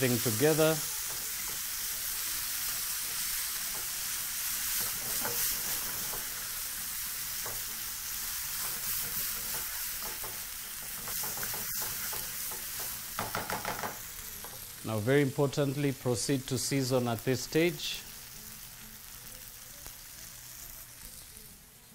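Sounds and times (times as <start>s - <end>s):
vegetables sizzling in oil: 0.0s - 21.9s.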